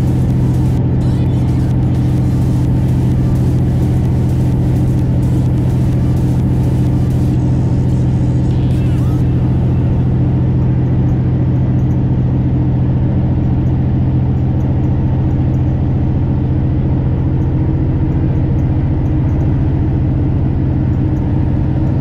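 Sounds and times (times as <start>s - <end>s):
diesel engine droning in cab: 0.0s - 22.0s.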